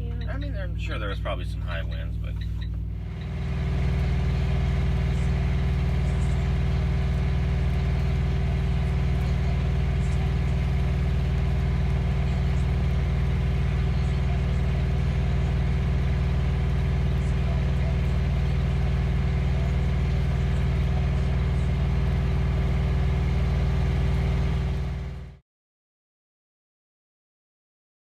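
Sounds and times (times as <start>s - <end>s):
diesel engine idling: 0.0s - 25.4s.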